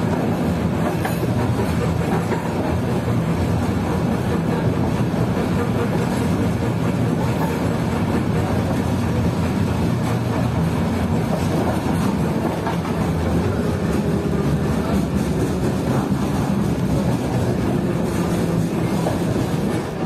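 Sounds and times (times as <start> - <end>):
tram wheels rumbling on rails: 0.0 - 20.0.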